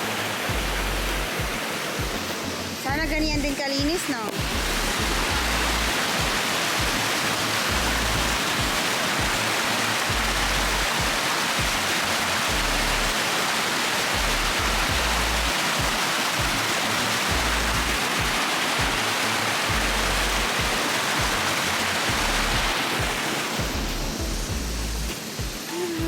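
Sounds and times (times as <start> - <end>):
background music with bass: 0.0 - 3.6, 4.4 - 13.2, 14.2 - 25.8
water rushing: 0.0 - 26.0.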